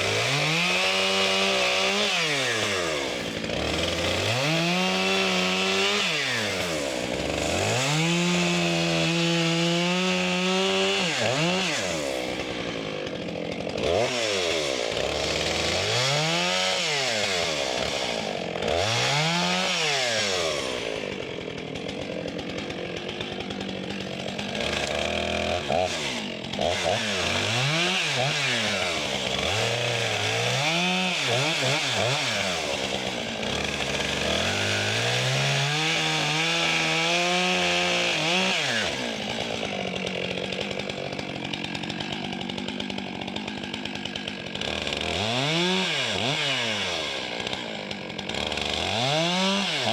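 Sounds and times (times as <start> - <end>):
chainsaw cutting logs: 0.0 - 49.9.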